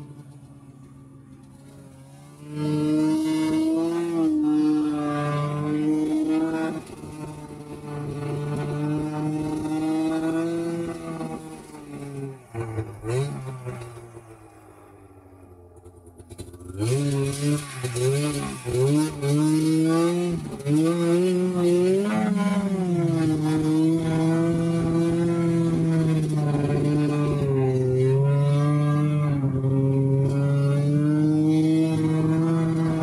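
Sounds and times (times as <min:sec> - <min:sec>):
snowmobile engine revving: 0:00.0 - 0:14.9, 0:16.0 - 0:33.0.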